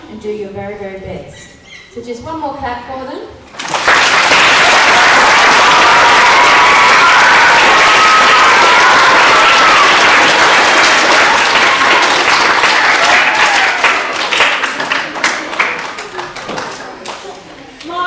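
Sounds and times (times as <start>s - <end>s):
audience clapping: 3.5s - 18.0s.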